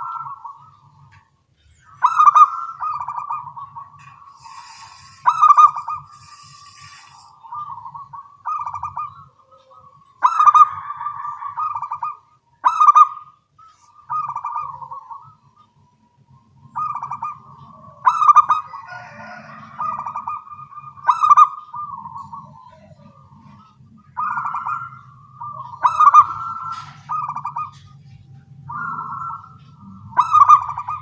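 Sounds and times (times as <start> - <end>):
doves cooing: 0.0 - 31.0.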